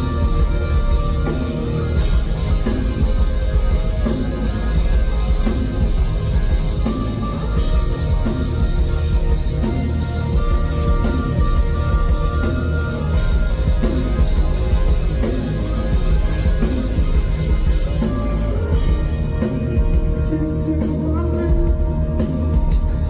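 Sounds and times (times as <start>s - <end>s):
drum kit: 0.0s - 23.0s
electric guitars: 0.0s - 23.0s.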